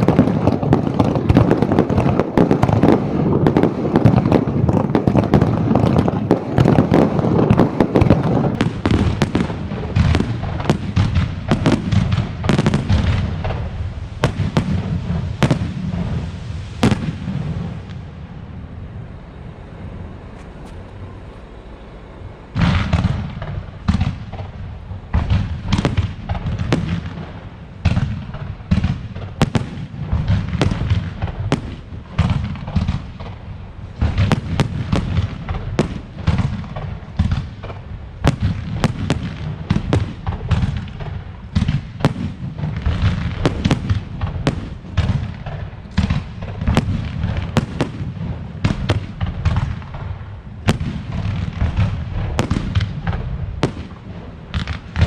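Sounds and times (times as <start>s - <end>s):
firework sharp cracks: 0.0s - 18.7s, 22.5s - 55.0s
firework low booms: 0.0s - 55.0s.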